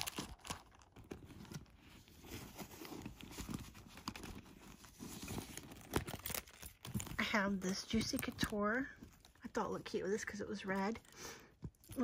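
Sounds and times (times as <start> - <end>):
rustling in a handbag: 0.0 - 12.0.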